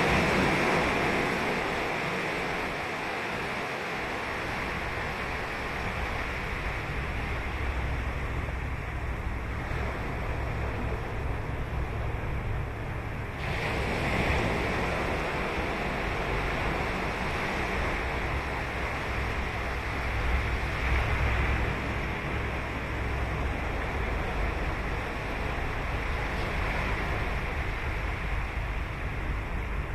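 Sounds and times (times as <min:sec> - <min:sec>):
ocean waves breaking on beach: 0:00.0 - 0:29.9
wind rumble on microphone: 0:00.0 - 0:29.9.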